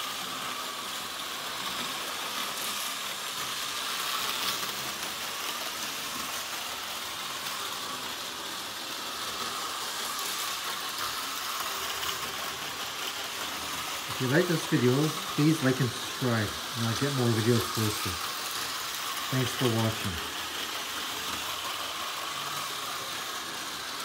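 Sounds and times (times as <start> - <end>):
model train motor whirring: 0.0 - 24.0.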